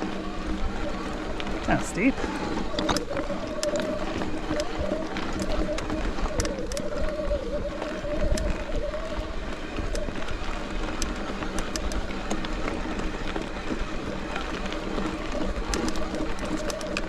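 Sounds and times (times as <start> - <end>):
bike rattles and clicks: 0.0 - 17.0
tyre and wind noise: 0.0 - 17.0
wavering whir: 0.0 - 17.0.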